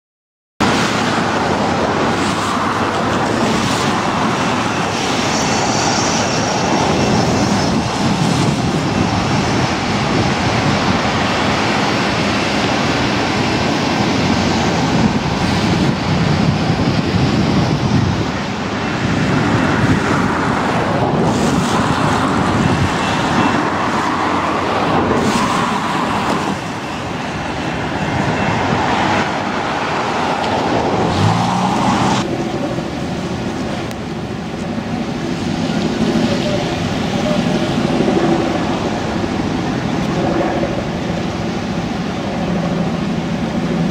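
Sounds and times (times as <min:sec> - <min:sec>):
freight train rumbling past: 0:00.6 - 0:43.9
traffic on wet road: 0:00.6 - 0:43.9.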